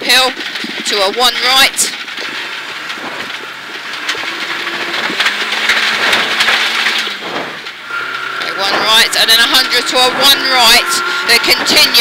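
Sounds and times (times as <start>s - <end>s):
car engine running: 0.0s - 12.0s
tyres on gravel road: 0.0s - 12.0s.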